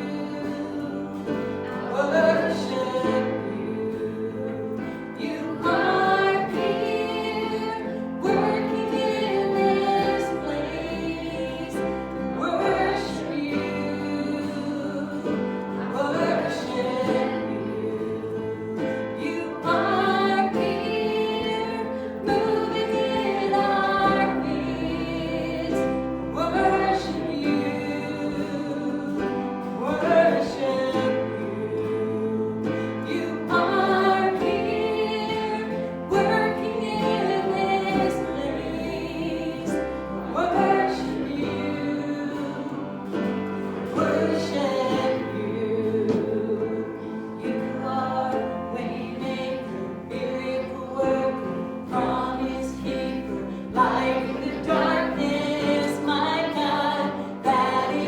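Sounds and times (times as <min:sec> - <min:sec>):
congregation singing slow worship song: 0:00.0 - 0:58.0.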